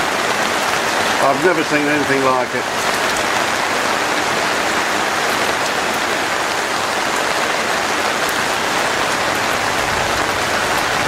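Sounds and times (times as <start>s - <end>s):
heavy rain drumming: 0.0s - 11.0s.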